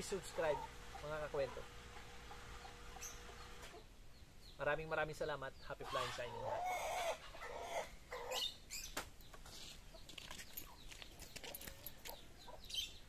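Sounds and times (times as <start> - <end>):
chickens clucking: 0.0 - 4.0, 5.7 - 13.0.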